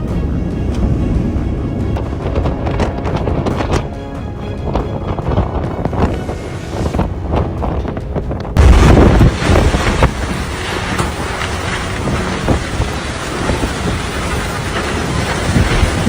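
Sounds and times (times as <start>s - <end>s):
storm wind gusting: 0.0s - 16.0s.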